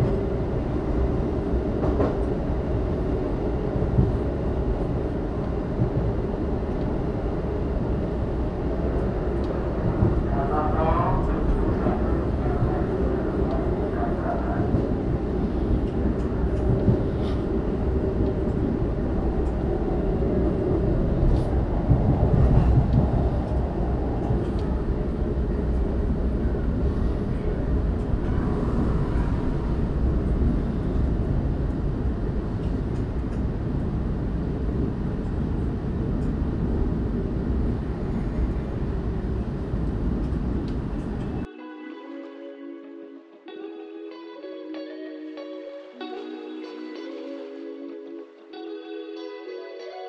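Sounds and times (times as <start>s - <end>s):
train rumbling on rails: 0.0s - 41.5s.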